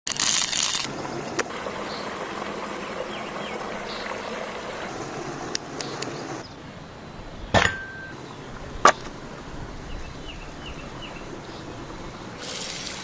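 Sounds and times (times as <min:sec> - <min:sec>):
outdoor background hiss: 0:00.1 - 0:13.0.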